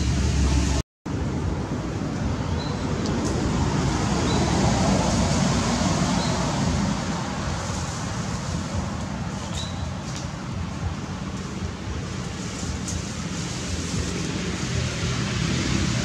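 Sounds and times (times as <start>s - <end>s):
rumbling outdoor background noise: 0.0s - 16.0s.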